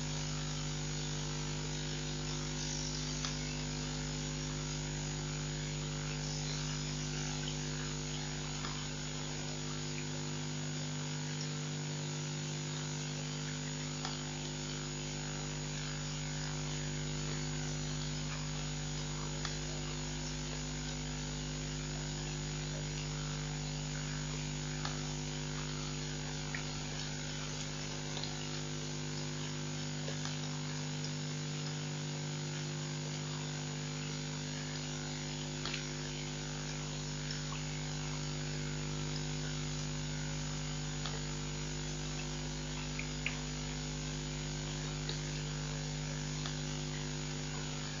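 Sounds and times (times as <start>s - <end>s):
constant hiss: 0.0s - 48.0s
electrical mains hum: 0.0s - 48.0s.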